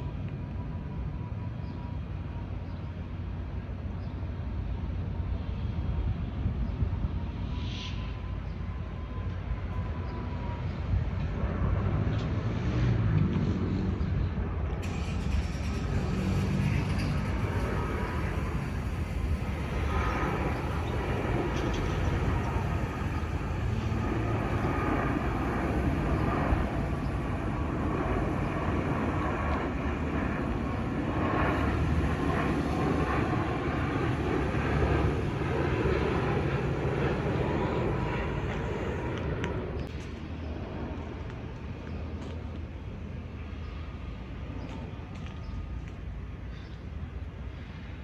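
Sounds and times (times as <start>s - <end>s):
airliner engines rumbling: 0.0s - 48.0s.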